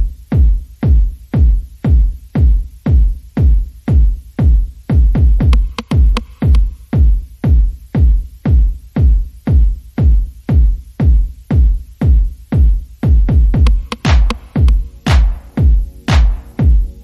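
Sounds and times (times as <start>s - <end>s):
electronic dance music: 0.0s - 17.0s
steady kick drum beat: 0.0s - 17.0s.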